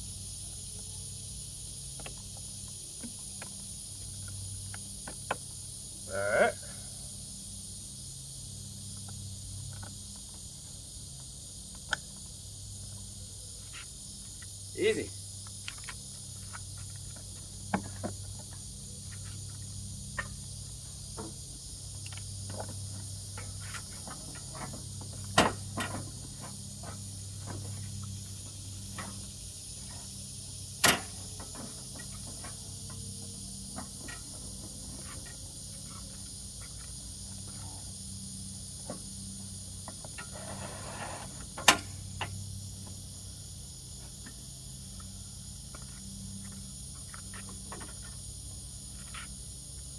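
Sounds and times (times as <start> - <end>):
high insect-like chirr: 0.0 - 49.9
steady low hum: 0.0 - 49.9.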